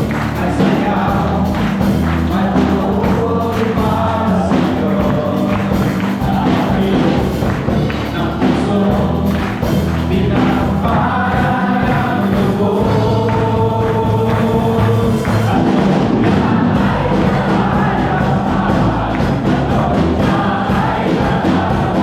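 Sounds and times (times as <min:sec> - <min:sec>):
congregation singing praise song: 0:00.0 - 0:22.0
worship band playing: 0:00.0 - 0:22.0.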